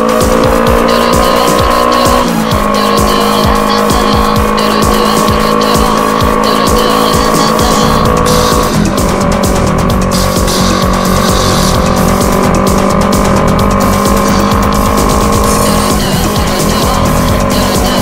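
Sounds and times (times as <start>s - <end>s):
background music with drum beat: 0.0s - 18.0s.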